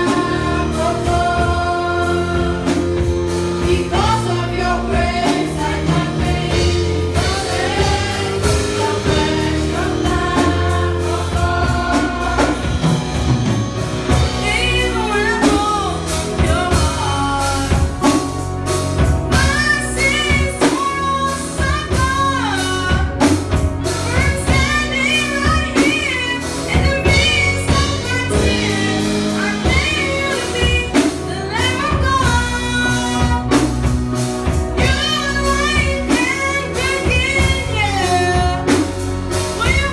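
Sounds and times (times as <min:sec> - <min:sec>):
band playing bass and drums: 0:00.0 - 0:39.9
gospel-style singing: 0:00.0 - 0:39.9.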